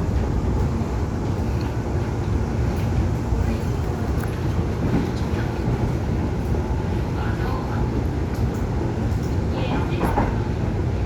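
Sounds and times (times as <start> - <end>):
train rumbling inside car: 0.0 - 11.0.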